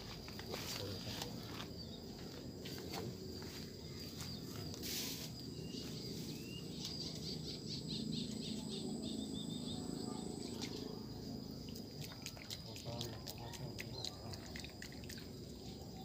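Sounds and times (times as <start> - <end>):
high insect drone: 0.0 - 16.0
small bird chirping: 0.4 - 16.0.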